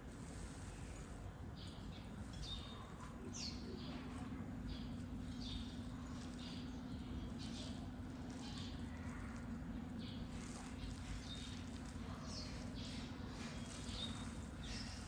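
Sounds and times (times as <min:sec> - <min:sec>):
steady low hum: 0:00.0 - 0:15.0
small birds chirping: 0:00.2 - 0:15.0.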